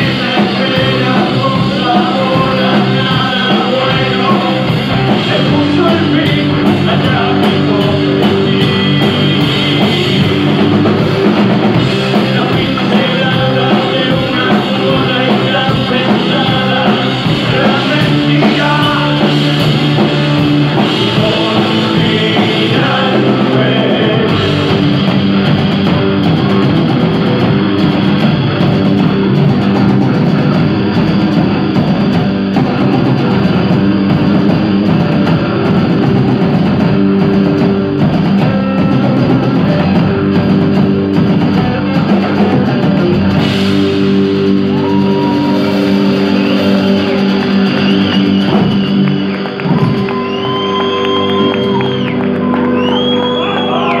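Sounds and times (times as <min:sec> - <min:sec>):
live rock band playing: 0:00.0 - 0:54.0
whining guitar tones: 0:00.0 - 0:54.0.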